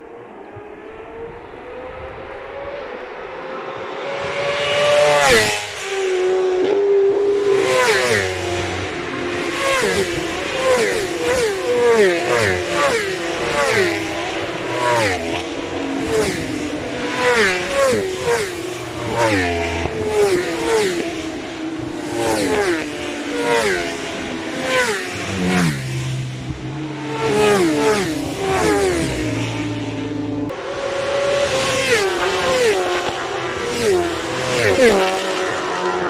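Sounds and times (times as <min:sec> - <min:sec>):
racing motorcycles speeding past: 0:00.0 - 0:36.0.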